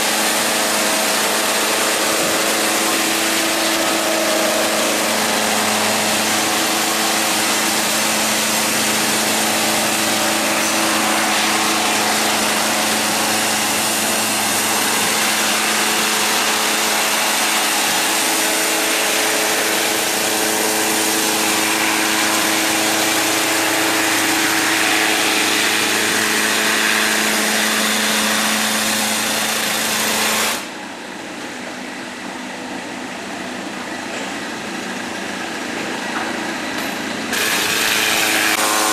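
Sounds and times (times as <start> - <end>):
concrete scarifier grinding: 0.0 - 30.7, 36.7 - 38.9.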